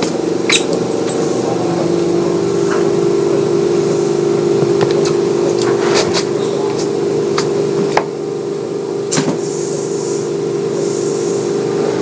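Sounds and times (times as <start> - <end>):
train motor hum: 0.0 - 12.0.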